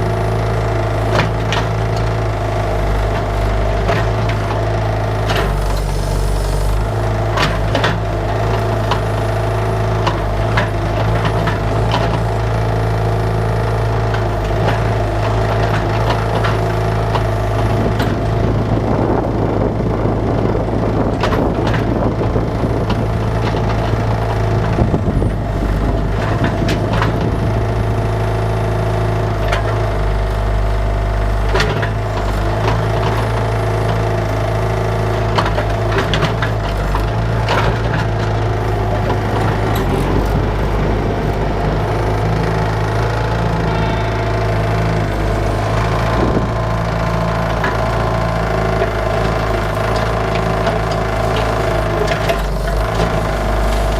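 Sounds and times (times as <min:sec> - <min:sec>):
diesel excavator engine: 0:00.0 - 0:53.9.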